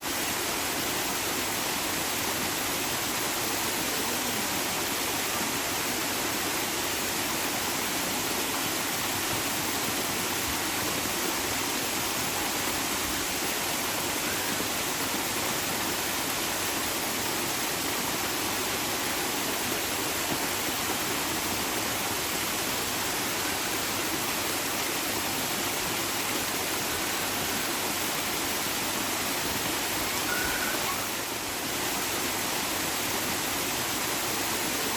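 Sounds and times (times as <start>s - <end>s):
flowing water rushing: 0.0s - 34.9s.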